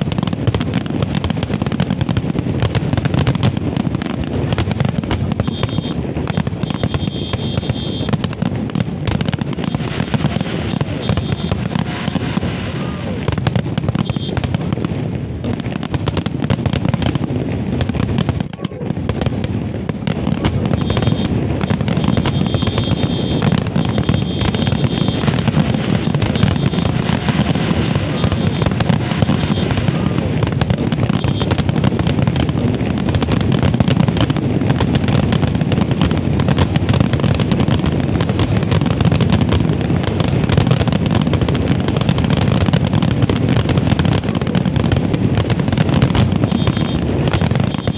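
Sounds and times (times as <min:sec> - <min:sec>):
fireworks bursts and crackling: 0:00.0 - 0:47.9.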